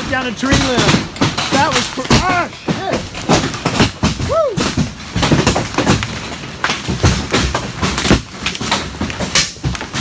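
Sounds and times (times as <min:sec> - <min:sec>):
hail hammering metal roof: 0:00.0 - 0:10.0.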